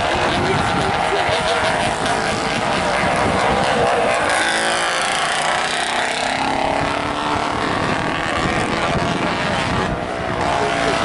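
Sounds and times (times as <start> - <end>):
motorcycle approaching: 0.0 - 11.0
motorcycle engine passing: 0.0 - 11.0.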